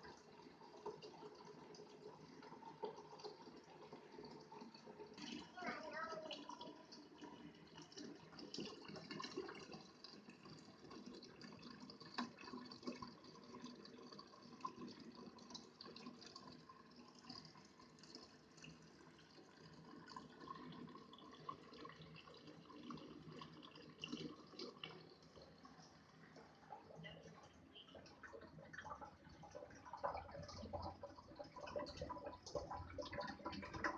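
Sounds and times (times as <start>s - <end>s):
water trickling and dripping: 0.0s - 33.9s.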